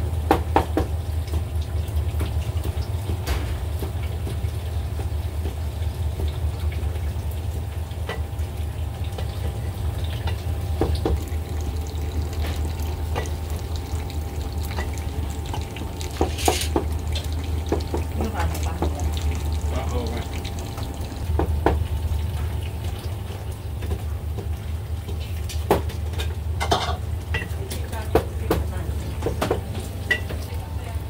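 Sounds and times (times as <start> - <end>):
low kitchen hum: 0.0 - 31.0.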